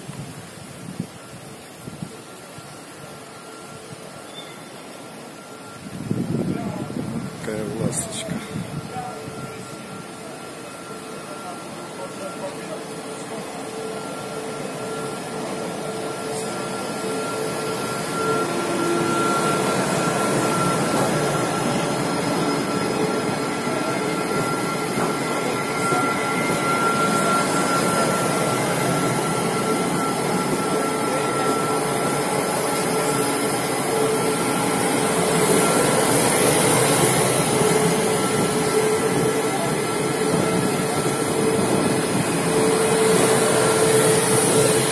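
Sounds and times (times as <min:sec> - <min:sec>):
train rumble and hiss: 0:00.0 - 0:44.9
train whine: 0:00.0 - 0:44.9.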